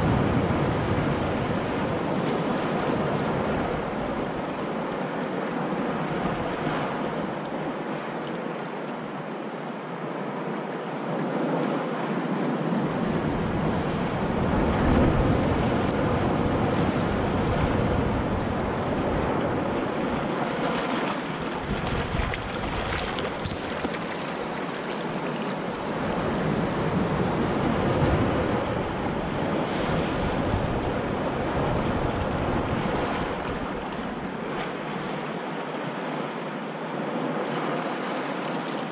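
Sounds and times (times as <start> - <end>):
wind rumble on microphone: 0.0 - 9.4, 10.0 - 38.9
ocean surf breaking on rocks: 0.0 - 38.9.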